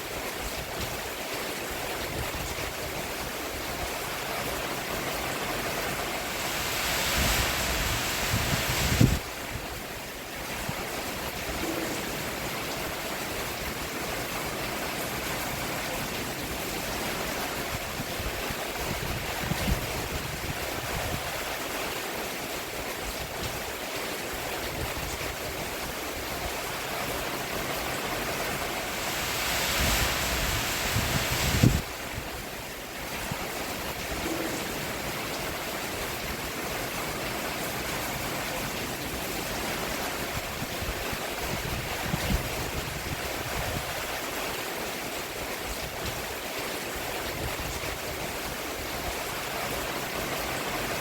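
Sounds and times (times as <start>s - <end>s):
rain falling on a roof: 0.0s - 51.0s.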